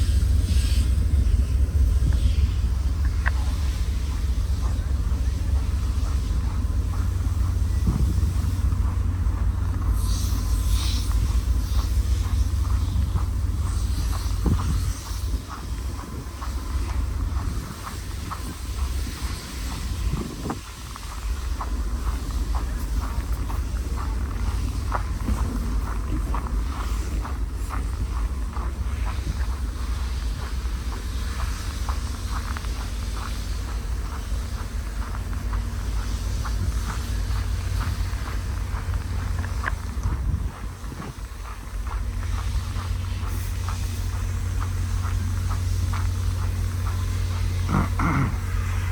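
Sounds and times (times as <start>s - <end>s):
standing train rumble: 0.0s - 48.9s
wind buffeting microphone: 0.0s - 48.9s
footsteps: 0.3s - 48.9s.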